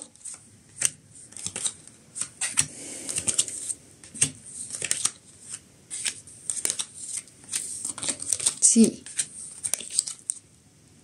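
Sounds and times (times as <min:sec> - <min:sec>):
cards clicking and rustling: 0:00.0 - 0:10.4.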